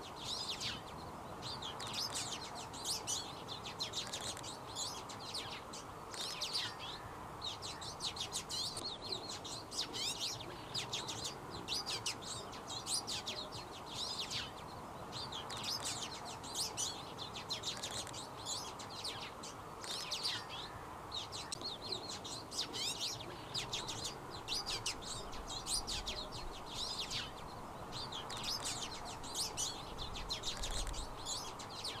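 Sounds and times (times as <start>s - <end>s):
background hiss: 0.0s - 32.0s
bird twittering chirps: 0.0s - 32.0s.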